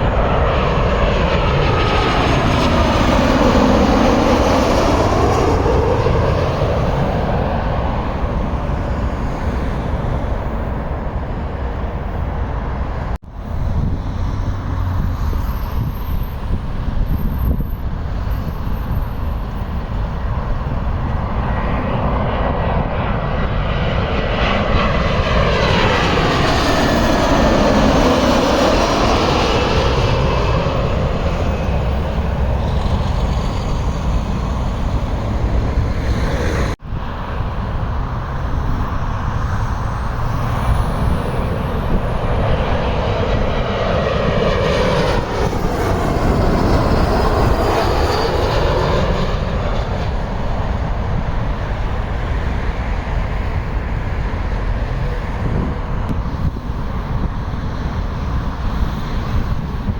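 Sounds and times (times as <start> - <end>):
jet engine whine passing overhead: 0.0 - 59.9.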